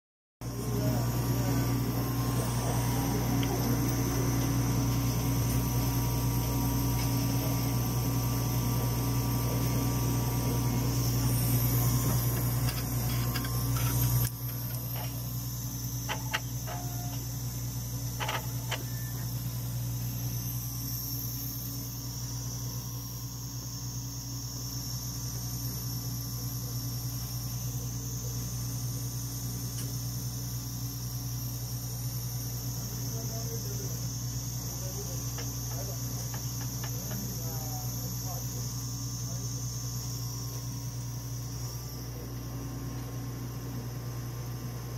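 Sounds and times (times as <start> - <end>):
analyzer machine humming: 0.4 - 44.9.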